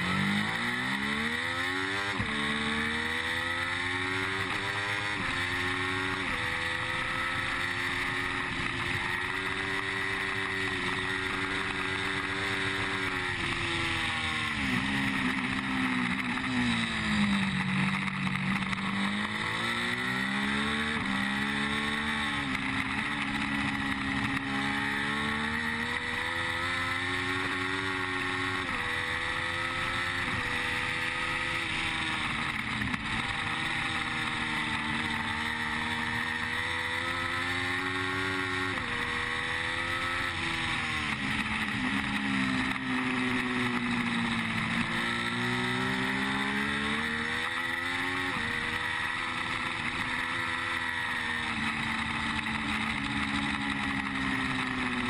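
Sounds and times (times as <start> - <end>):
motorcycle engine racing: 0.0 - 55.0.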